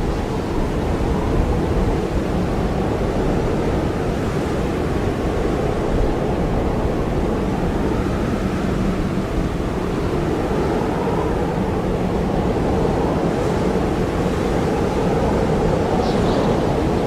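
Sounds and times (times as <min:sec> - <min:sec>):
blizzard wind howling: 0:00.0 - 0:17.0.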